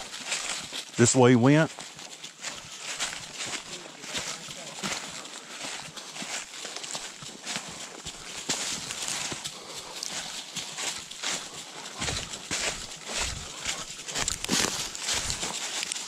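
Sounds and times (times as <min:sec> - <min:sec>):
footsteps crunching through dry leaves: 0:00.0 - 0:16.0.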